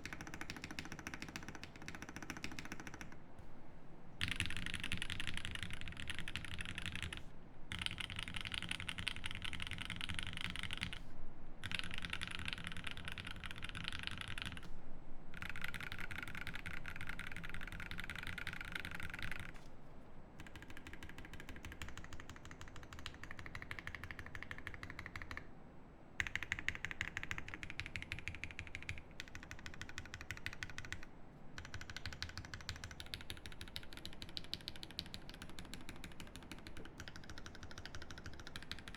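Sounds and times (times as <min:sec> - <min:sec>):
mechanical keyboard typing: 0:00.0 - 0:03.2, 0:04.2 - 0:11.0, 0:11.6 - 0:14.7, 0:15.4 - 0:19.6, 0:20.4 - 0:25.4, 0:26.2 - 0:38.9.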